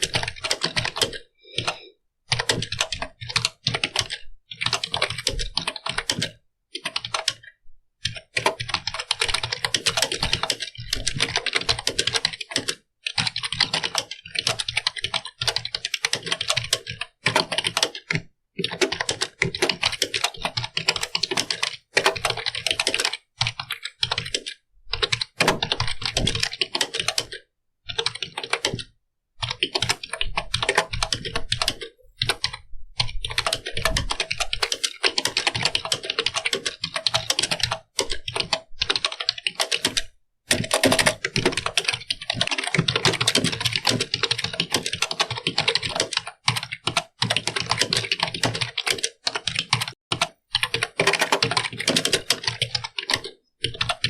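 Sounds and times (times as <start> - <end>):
computer keyboard typing: 0.0 - 54.0.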